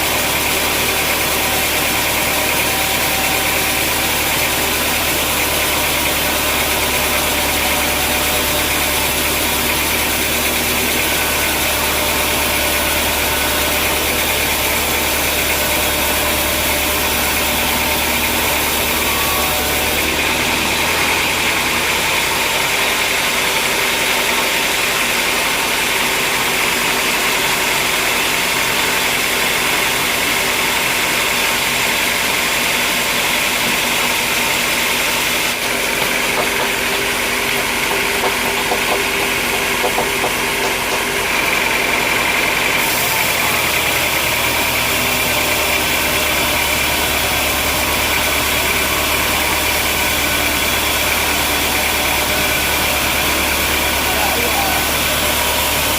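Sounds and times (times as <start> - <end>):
engine-like low hum: 0.0 - 55.9
sawmill machinery hissing: 0.0 - 55.9.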